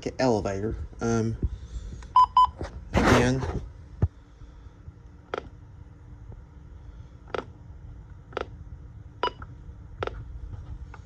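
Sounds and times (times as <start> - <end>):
low steady background hum: 0.0 - 11.0.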